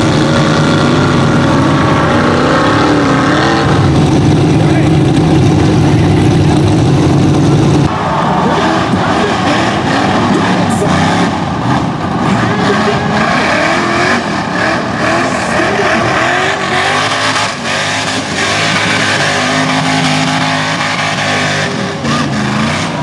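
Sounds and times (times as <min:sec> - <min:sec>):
buggy engine revving: 0:00.0 - 0:23.0.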